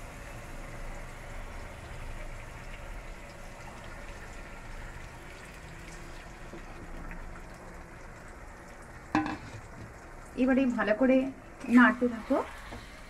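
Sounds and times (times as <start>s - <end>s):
meat frying in hot oil: 0.0s - 13.0s.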